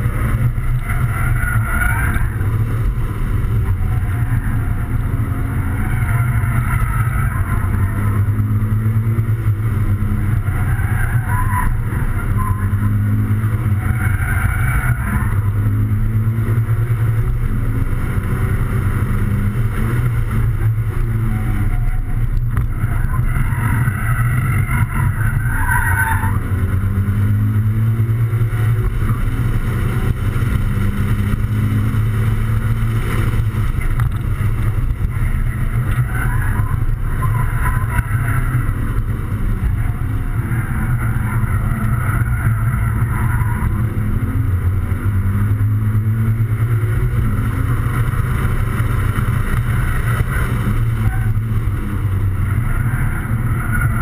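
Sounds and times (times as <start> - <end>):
car engine revving in cabin: 0.0 - 54.0.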